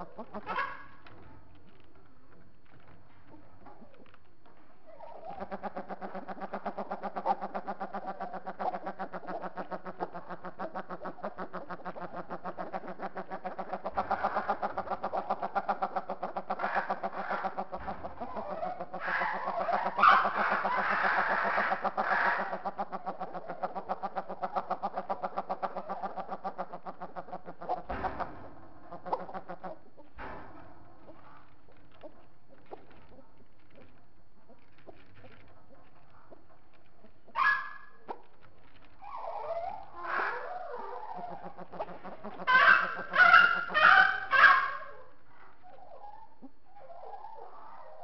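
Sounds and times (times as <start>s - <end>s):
caged birds calling: 0.0s - 2.2s, 4.6s - 48.0s.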